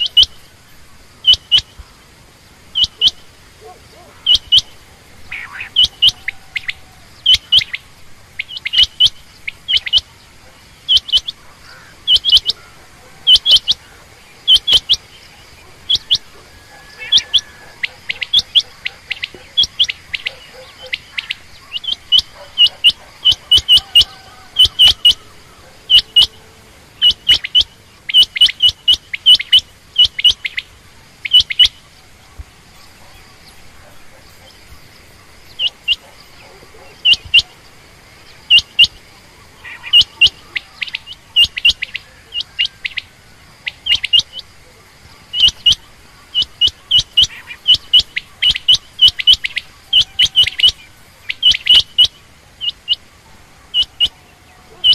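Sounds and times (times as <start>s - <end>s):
quail calling: 0.0s - 54.9s.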